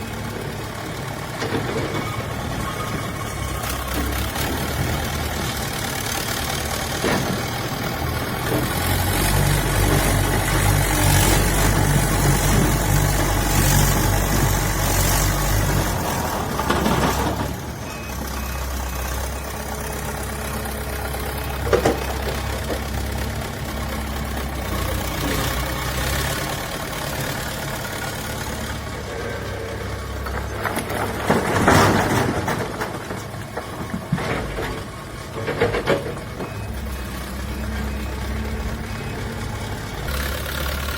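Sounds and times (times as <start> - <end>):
heavy machine diesel engine: 0.0 - 40.9.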